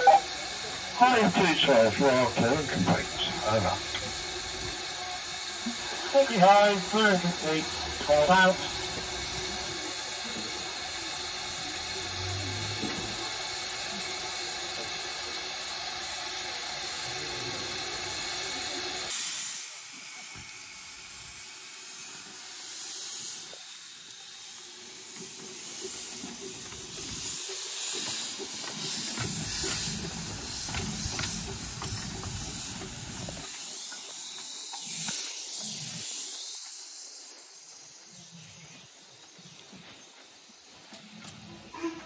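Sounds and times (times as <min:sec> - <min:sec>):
steam locomotive exhaust: 0:00.0 - 0:38.7
steam hissing: 0:00.0 - 0:39.3.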